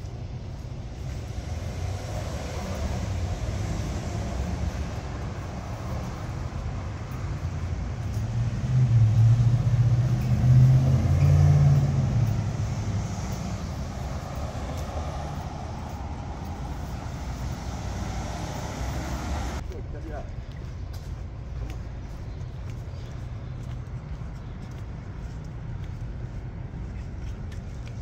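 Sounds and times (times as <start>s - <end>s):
heavy vehicle engine rumble: 0.0s - 28.0s
street traffic noise: 0.0s - 28.0s.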